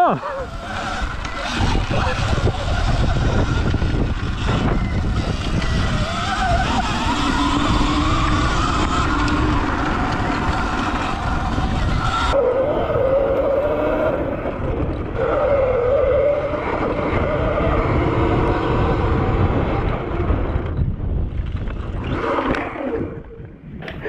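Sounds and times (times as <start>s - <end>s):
rattling from rough ground: 0.0s - 24.0s
electric motor whine: 0.2s - 20.7s
wind noise on microphone: 0.2s - 24.0s
electric bike crashing: 0.4s - 23.2s.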